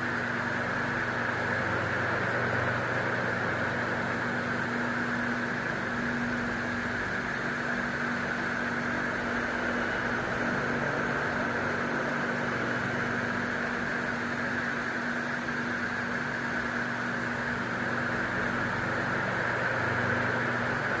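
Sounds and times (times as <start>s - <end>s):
electric fan air rushing: 0.0s - 21.0s
fan motor hum: 0.0s - 21.0s.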